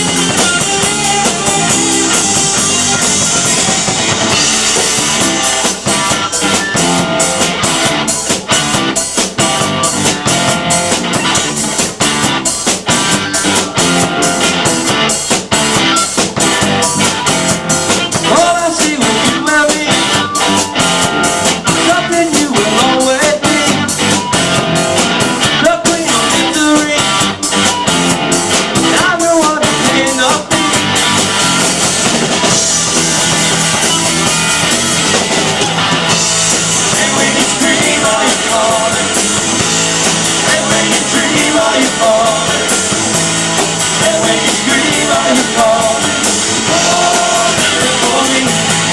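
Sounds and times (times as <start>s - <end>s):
drum kit beat: 0.0s - 48.9s
rock band playing live: 0.0s - 48.9s.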